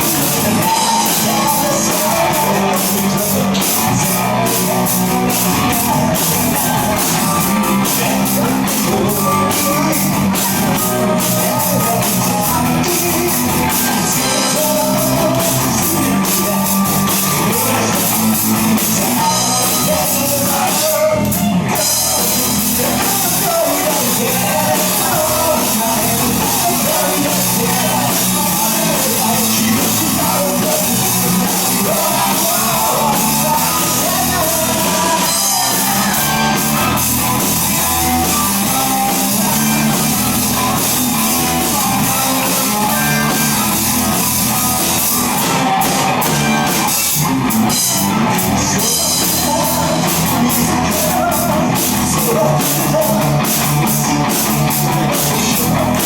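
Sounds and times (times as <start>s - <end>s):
lead singer singing: 0.0s - 56.0s
live rock band: 0.0s - 56.0s.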